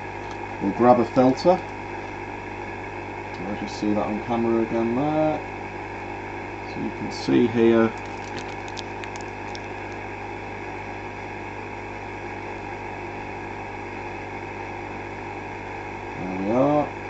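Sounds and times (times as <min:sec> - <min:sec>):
electrical hum with fan whir: 0:00.0 - 0:17.0.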